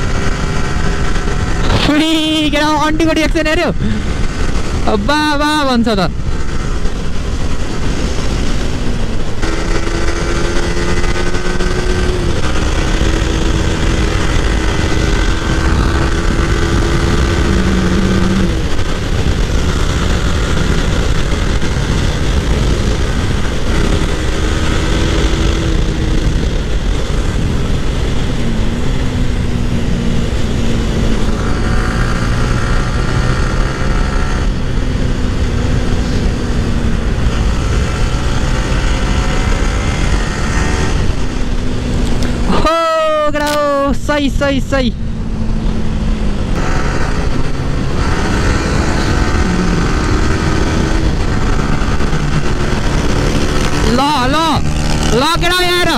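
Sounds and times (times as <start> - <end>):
motorcycle engine running: 0.0 - 55.9
wind and road noise: 0.0 - 55.9.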